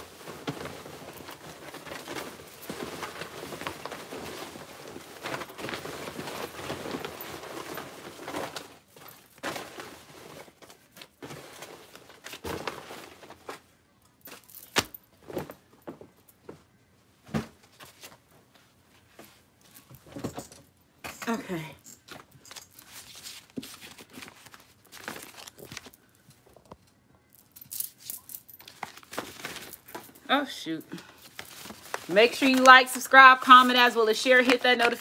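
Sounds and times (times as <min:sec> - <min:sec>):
fabric rustling: 0:00.0 - 0:20.2, 0:22.0 - 0:26.2, 0:28.1 - 0:35.0.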